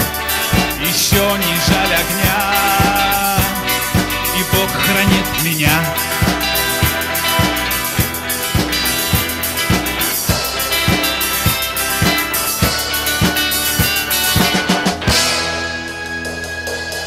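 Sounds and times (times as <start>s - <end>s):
drum fill and cymbal crash: 0.0s - 17.0s
rock band playing: 0.0s - 17.0s.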